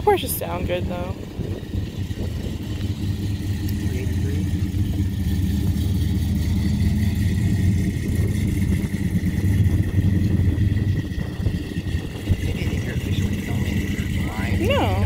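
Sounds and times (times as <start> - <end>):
car engine deep rumble: 0.0 - 15.0.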